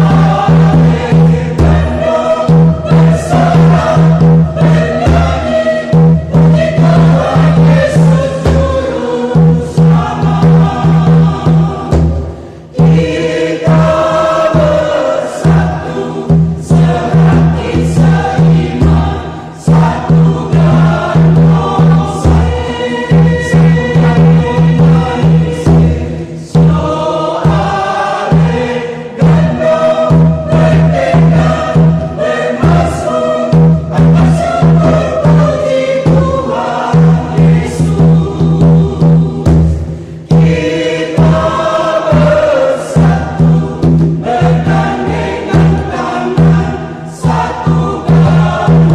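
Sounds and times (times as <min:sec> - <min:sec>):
choir singing a hymn: 0:00.0 - 0:48.9
hand drum beat: 0:00.0 - 0:48.9.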